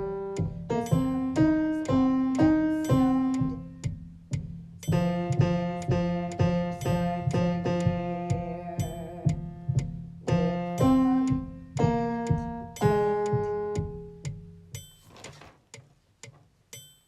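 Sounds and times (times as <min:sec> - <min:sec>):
electric piano chords: 0:00.0 - 0:14.9
metronome ticking: 0:00.0 - 0:17.0.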